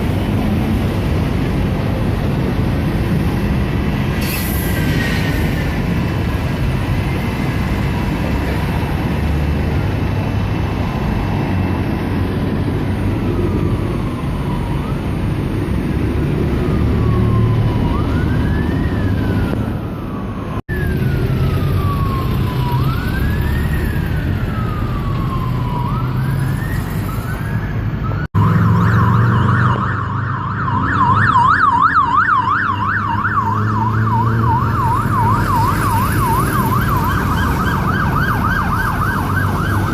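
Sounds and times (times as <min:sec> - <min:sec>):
emergency vehicle siren: 0:00.0 - 0:39.9
road traffic rumble: 0:00.0 - 0:39.9.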